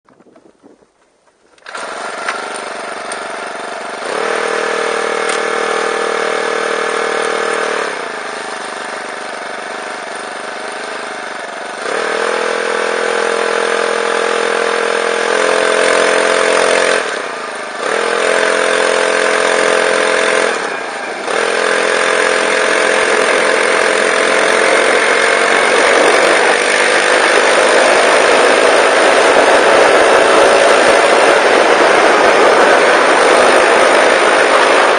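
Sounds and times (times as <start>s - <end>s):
small engine starting and running: 0.1s - 34.9s.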